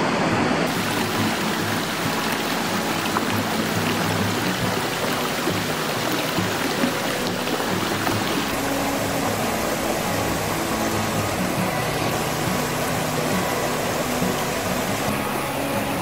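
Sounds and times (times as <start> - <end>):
background music: 0.0 - 16.0
rocky stream rushing: 0.0 - 16.0.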